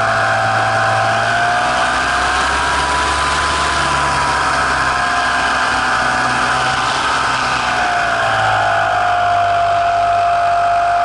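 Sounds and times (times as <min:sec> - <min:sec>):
airplane propeller whine: 0:00.0 - 0:11.0.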